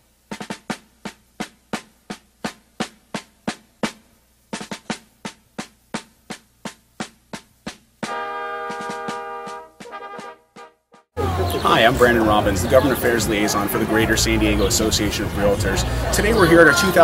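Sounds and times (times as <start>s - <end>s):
drum beat: 0.2s - 17.0s.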